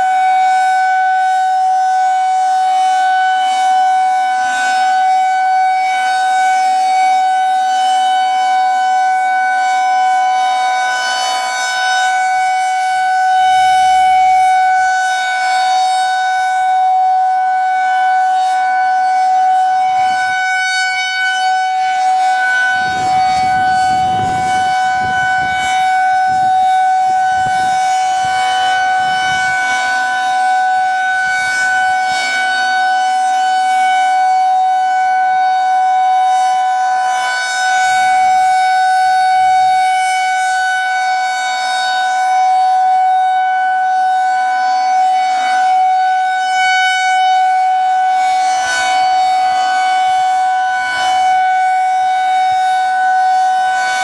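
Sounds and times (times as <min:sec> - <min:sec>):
tornado siren steady tone: 0:00.0 - 0:54.0.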